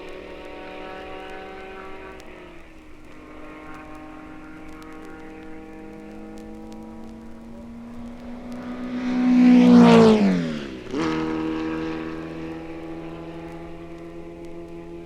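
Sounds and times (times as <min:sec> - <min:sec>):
racing car passing at speed: 0:00.0 - 0:15.0.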